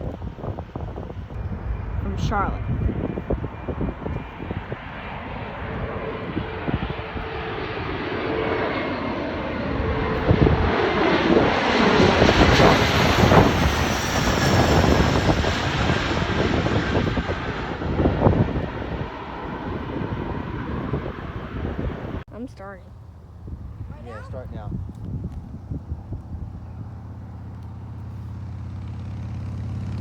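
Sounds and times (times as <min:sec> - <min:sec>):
jet passing overhead: 0:00.0 - 0:30.0.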